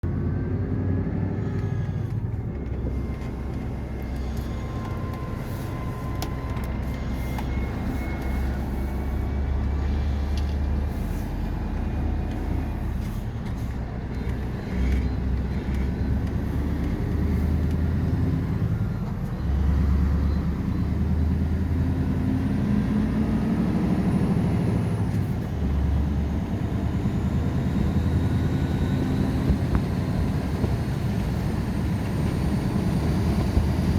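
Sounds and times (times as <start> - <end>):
truck diesel engine rumbling: 0.0 - 33.9.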